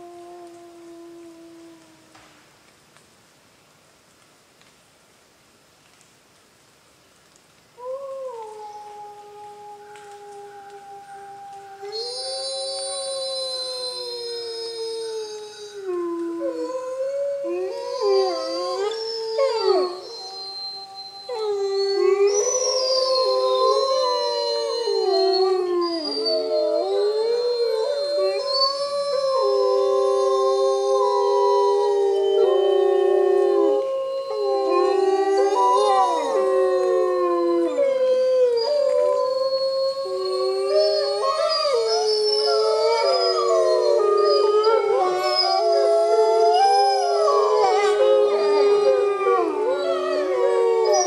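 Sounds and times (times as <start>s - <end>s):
wolves howling: 7.8s - 51.0s.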